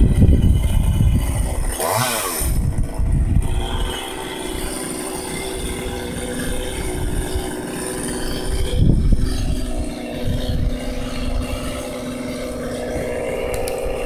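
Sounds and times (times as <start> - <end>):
chainsaw running and revving: 0.0 - 14.0.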